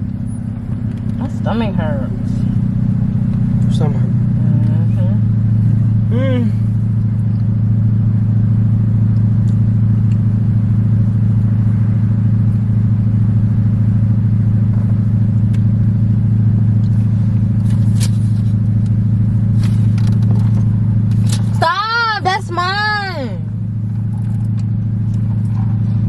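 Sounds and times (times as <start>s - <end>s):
car cabin rumble: 0.0s - 26.0s.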